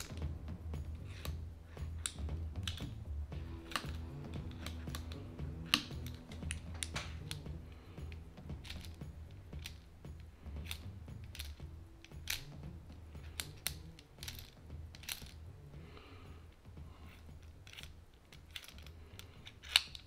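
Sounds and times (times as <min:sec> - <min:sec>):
metal puzzle clicking in fingers: 0:00.9 - 0:15.4, 0:16.5 - 0:20.0.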